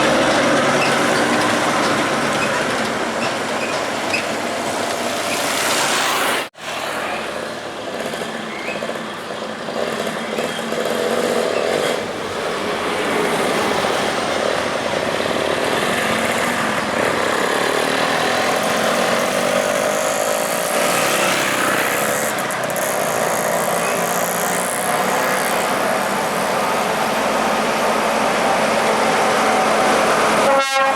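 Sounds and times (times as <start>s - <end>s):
road traffic: 0.0s - 30.9s.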